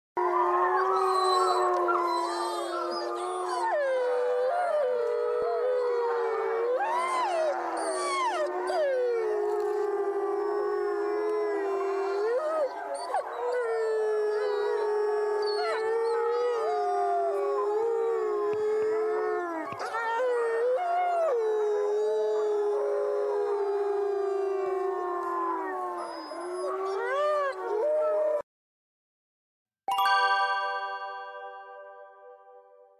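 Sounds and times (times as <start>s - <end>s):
wolves howling in chorus: 0.2s - 28.4s.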